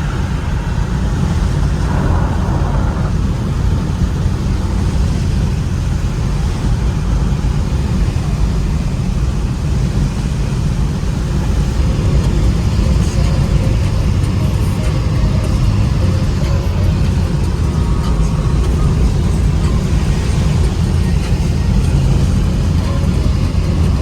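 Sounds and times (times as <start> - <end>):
car engine and road noise drone: 0.0 - 24.0.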